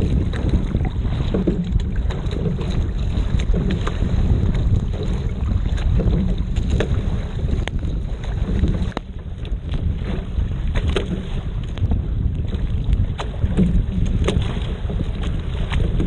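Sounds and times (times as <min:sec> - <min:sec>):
waves splashing against boat: 0:00.0 - 0:16.0
wind buffeting microphone: 0:00.0 - 0:16.0.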